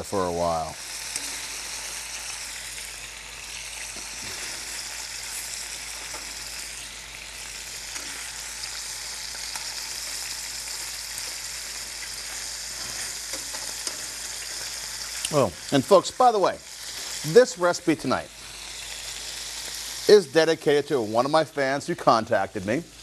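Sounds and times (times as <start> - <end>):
meat sizzling in oil: 0.0 - 23.0.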